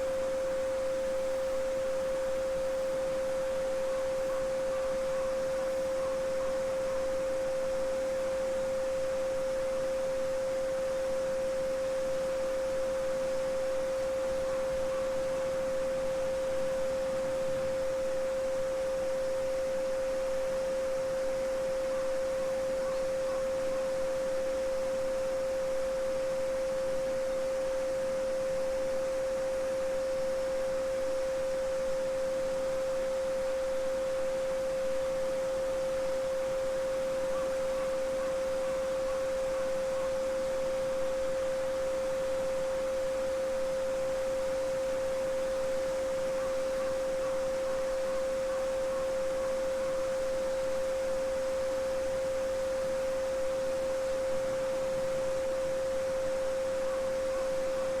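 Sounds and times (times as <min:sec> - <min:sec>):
steady sine tone: 0:00.0 - 0:58.0.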